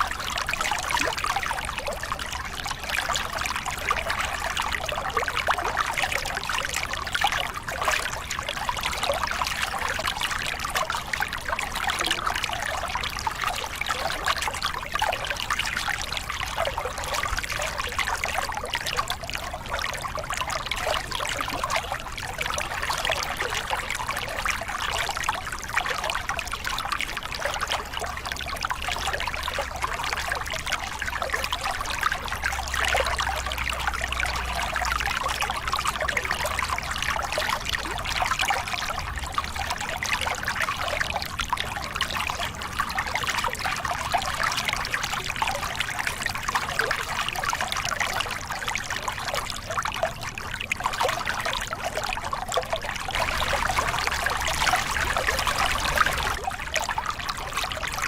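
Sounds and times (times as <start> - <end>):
water splashing over rocks: 0.0 - 58.0.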